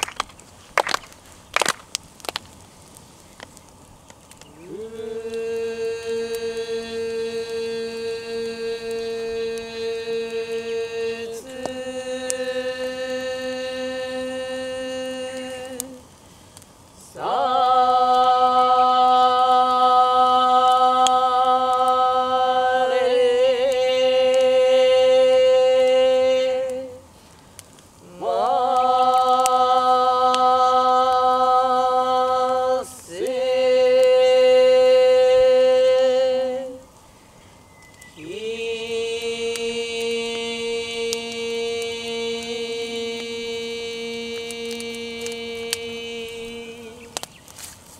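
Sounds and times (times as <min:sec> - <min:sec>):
person chanting held notes: 0:04.5 - 0:27.3, 0:28.0 - 0:37.0, 0:38.1 - 0:47.4.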